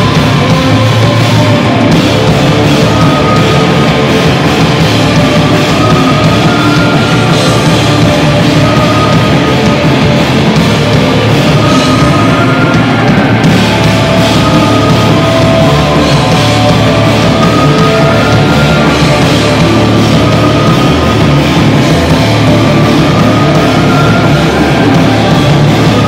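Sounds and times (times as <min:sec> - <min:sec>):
drum kit with cymbals: 0:00.0 - 0:26.0
electric bass: 0:00.0 - 0:26.0.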